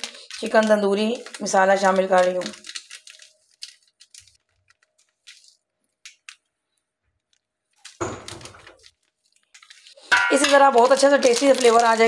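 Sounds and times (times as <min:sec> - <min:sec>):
foil sachet crinkling: 0:00.0 - 0:12.0.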